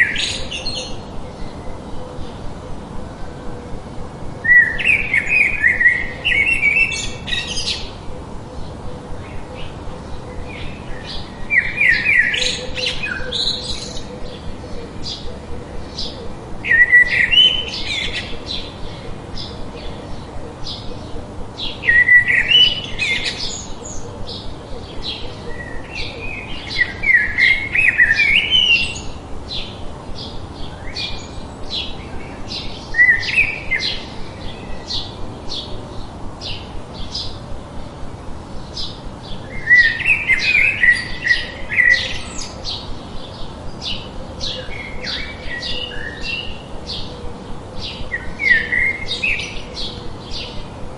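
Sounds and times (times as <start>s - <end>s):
birds chirping: 0.0s - 50.9s
steady hiss: 0.0s - 50.9s.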